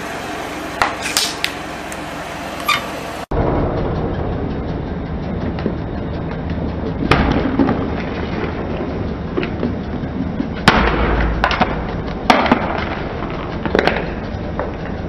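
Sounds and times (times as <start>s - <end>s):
low tyre rumble: 0.0s - 15.0s.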